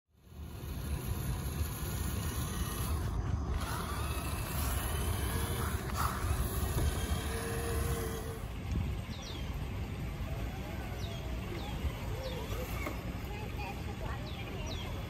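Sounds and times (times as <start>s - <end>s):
electric motor whining: 0.2s - 13.6s.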